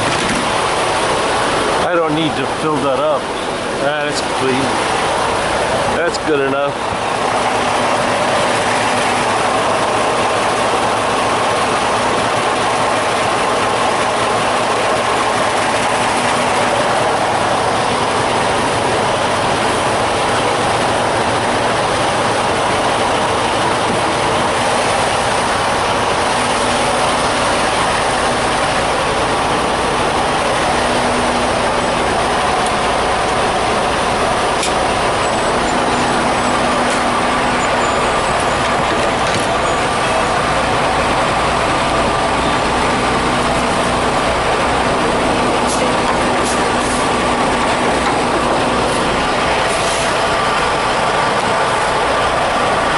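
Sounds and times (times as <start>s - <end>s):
semi truck engine running: 0.0s - 52.9s.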